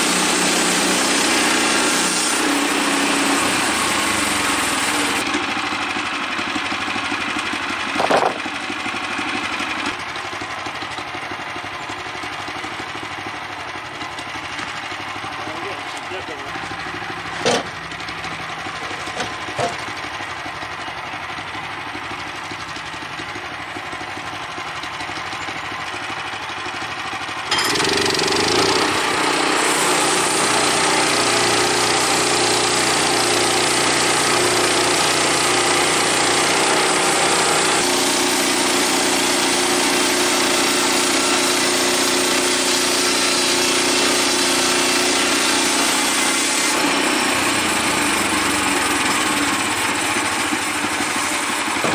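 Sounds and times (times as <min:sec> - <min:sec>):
sawmill engine at full speed: 0:00.0 - 0:51.9
sawmill engine idling: 0:00.0 - 0:51.9.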